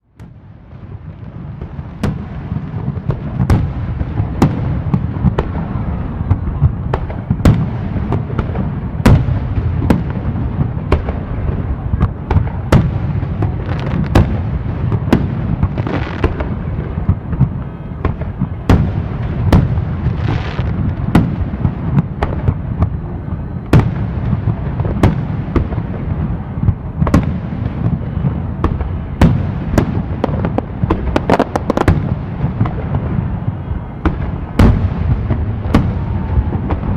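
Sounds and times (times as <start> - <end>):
fireworks booming and banging: 0.0 - 36.9
fireworks hissing crackles: 0.2 - 36.9.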